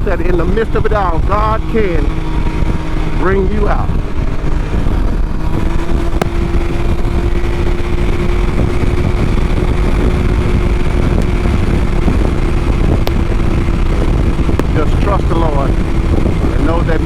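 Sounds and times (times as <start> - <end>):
motorcycle engine hum: 0.0 - 17.0
wind and road noise: 0.0 - 17.0.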